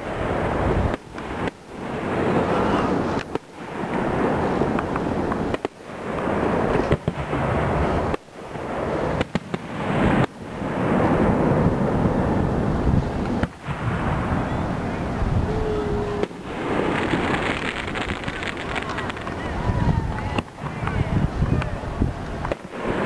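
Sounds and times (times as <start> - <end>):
fireworks bursting with booms: 0.0 - 23.0.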